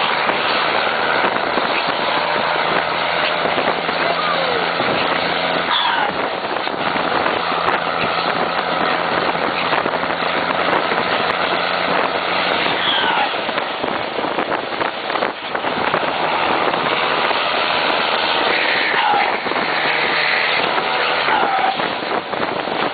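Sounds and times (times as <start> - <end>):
road noise: 0.0 - 22.9
truck diesel engine running: 0.0 - 22.9
wind noise: 0.0 - 22.9.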